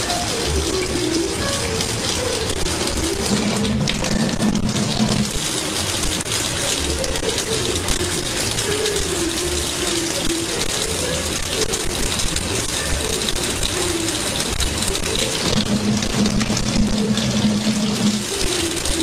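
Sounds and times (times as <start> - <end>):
tap water splashing into sink: 0.0 - 19.0.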